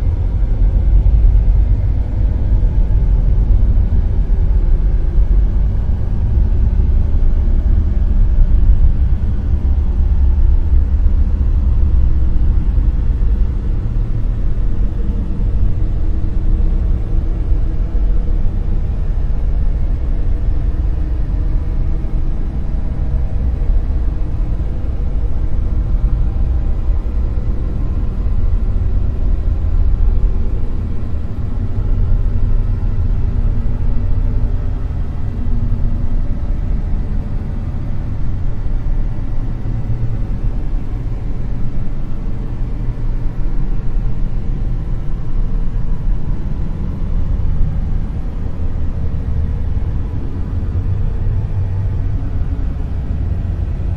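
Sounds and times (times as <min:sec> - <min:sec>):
deep rumbling dark noise: 0:00.0 - 0:53.9.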